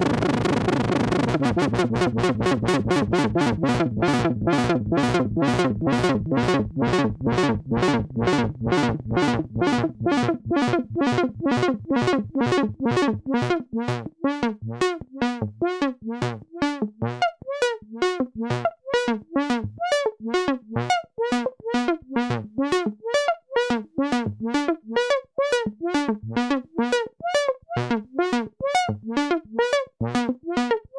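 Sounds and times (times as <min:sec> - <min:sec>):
synthesizer plucked notes: 0:00.0 - 0:30.9.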